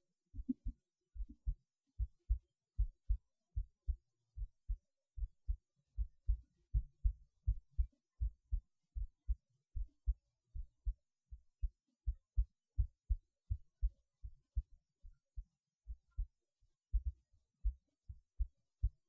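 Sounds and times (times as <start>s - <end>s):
heartbeat through stethoscope: 0.3s - 19.0s.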